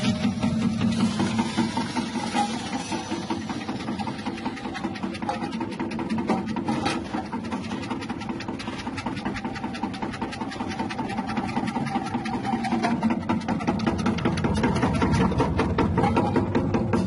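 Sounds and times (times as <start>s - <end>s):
motor hum: 0.0s - 17.0s
rotating blade ticking: 0.5s - 16.0s.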